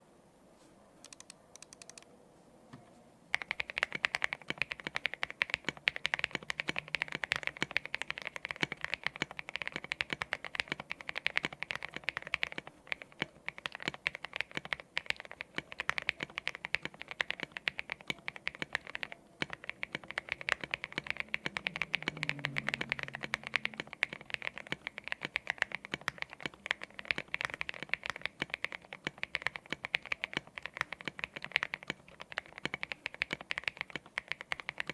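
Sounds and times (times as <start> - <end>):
mechanical keyboard typing: 1.0 - 2.0, 3.3 - 34.9.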